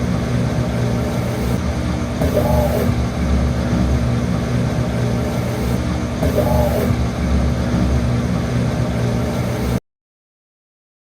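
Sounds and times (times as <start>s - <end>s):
washing machine motor hum: 0.0s - 9.8s.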